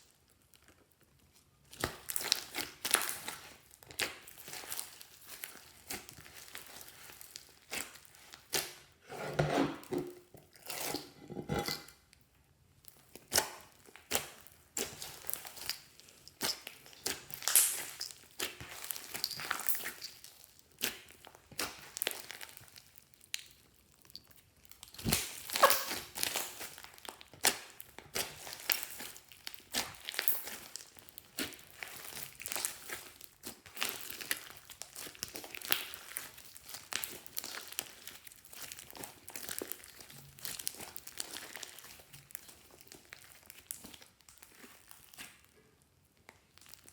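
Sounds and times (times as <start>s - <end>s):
slime crackling and popping: 0.2s - 9.0s, 12.8s - 45.5s, 46.2s - 46.9s.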